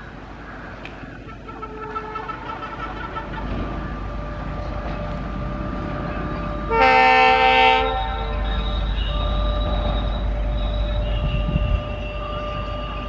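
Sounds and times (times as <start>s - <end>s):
diesel locomotive engine rumble: 0.0s - 13.0s
locomotive horn blast: 1.2s - 13.0s.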